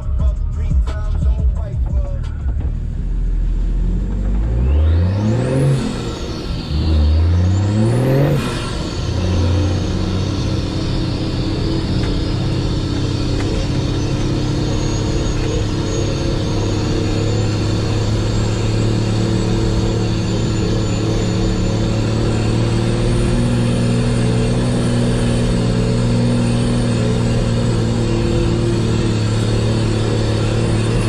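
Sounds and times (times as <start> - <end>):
diesel engine under load: 1.6 - 31.0.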